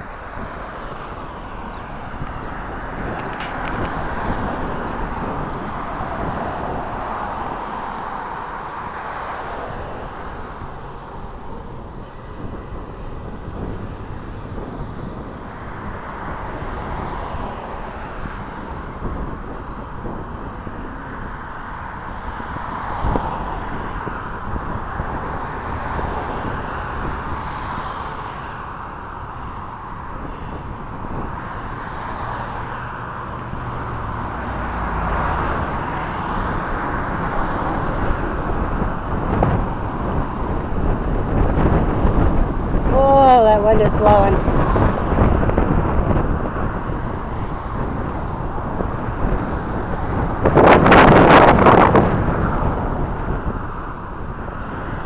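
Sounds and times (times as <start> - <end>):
road traffic hiss: 0.0 - 55.0
wind rumbling on microphone: 0.0 - 55.0.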